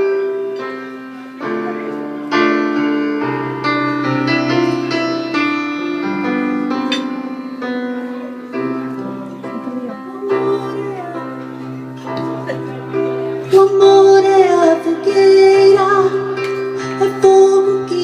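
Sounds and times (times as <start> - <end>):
keyboard piano chords: 0.0 - 18.0.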